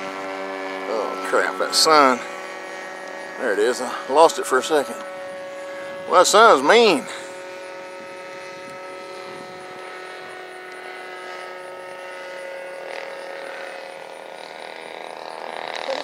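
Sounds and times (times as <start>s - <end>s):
model airplane motor droning: 0.0s - 16.0s.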